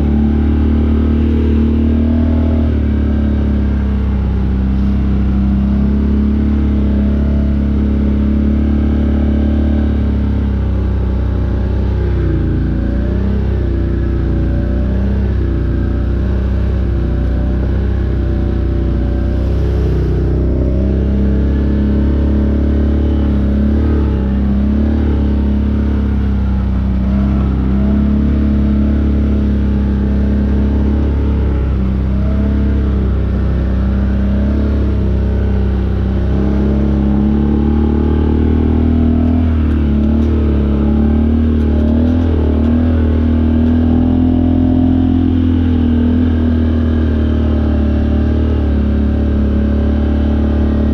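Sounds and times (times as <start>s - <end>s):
off-road vehicle engine running: 0.0s - 50.9s.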